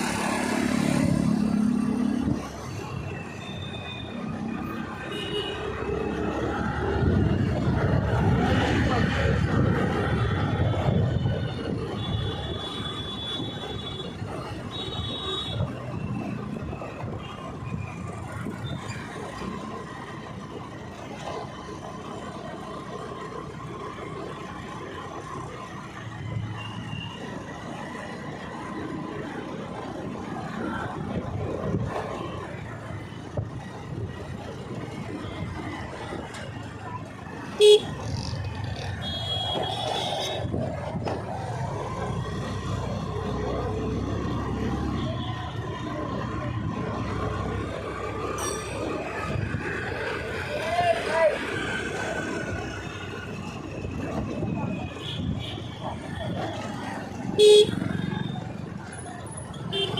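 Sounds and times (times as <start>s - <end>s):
city traffic rumble: 0.0s - 59.9s.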